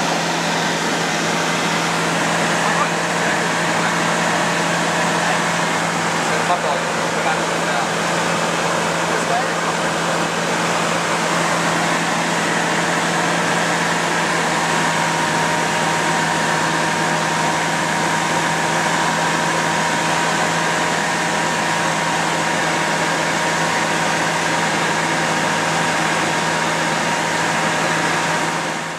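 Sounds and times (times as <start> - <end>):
small aircraft engine drone: 0.0 - 28.9
thin steady whine: 0.0 - 28.9.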